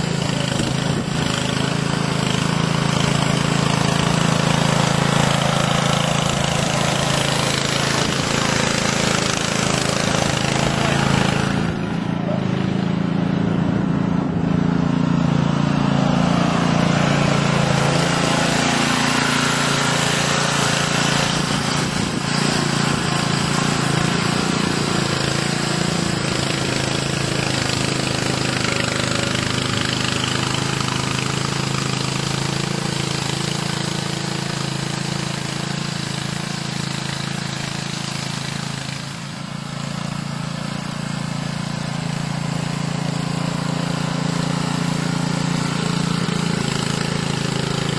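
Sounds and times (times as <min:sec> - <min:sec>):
small engine running steadily: 0:00.0 - 0:47.9.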